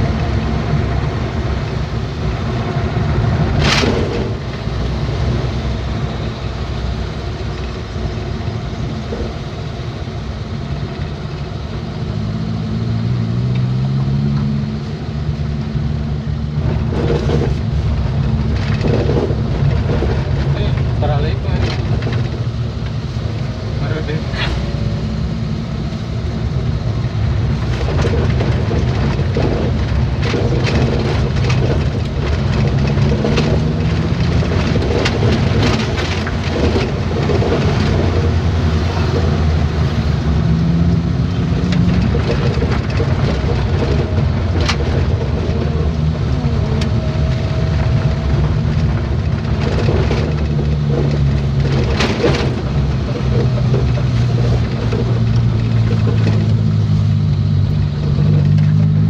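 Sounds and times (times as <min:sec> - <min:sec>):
tyre and road noise: 0:00.0 - 0:59.0
vehicle engine running: 0:00.0 - 0:59.0.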